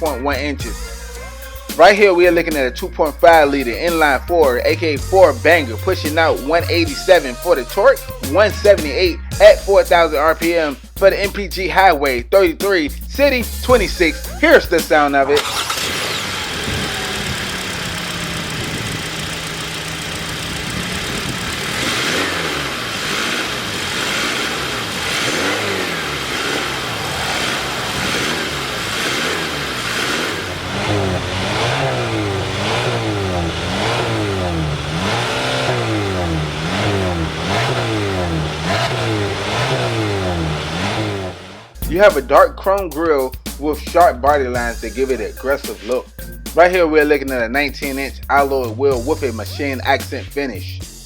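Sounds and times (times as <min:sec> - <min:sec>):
car engine idling and revving: 0:00.0 - 0:42.3.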